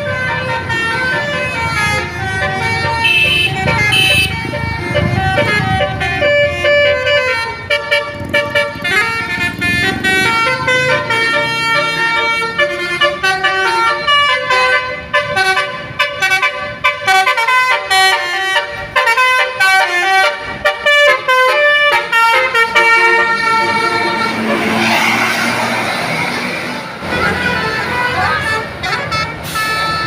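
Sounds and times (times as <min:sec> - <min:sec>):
bus horn playing a tune: 0:00.0 - 0:25.4, 0:26.6 - 0:30.0.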